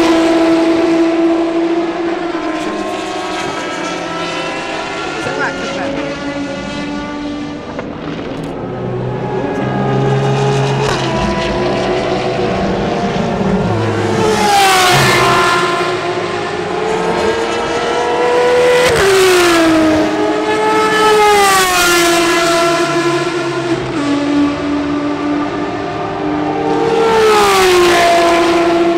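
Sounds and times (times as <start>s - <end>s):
race car accelerating past: 0.0s - 28.9s.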